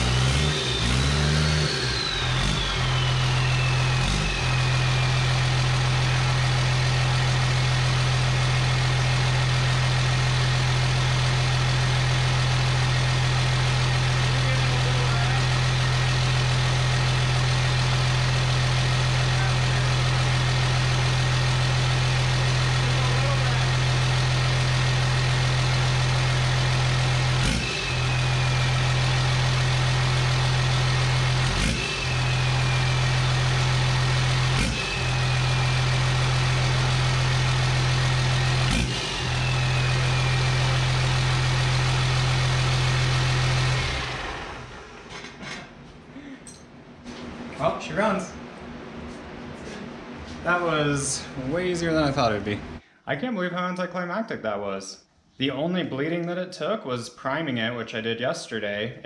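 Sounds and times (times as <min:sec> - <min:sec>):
diesel engine idling: 0:00.0 - 0:45.1, 0:50.5 - 0:52.8.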